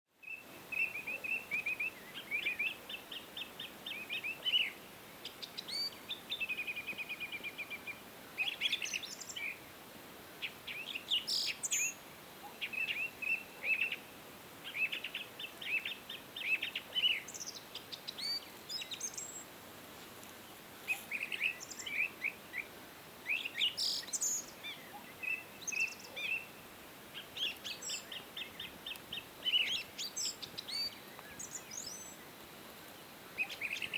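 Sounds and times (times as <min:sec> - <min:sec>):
songbirds singing: 0:00.1 - 0:19.6, 0:20.2 - 0:33.9
faint steady hiss: 0:00.1 - 0:33.9.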